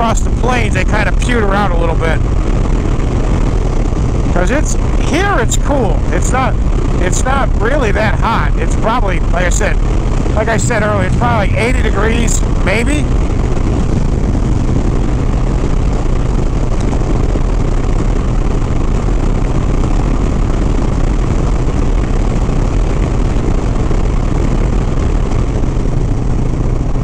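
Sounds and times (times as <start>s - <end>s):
motorcycle engine running: 0.0s - 27.0s
wind noise on microphone: 0.0s - 27.0s.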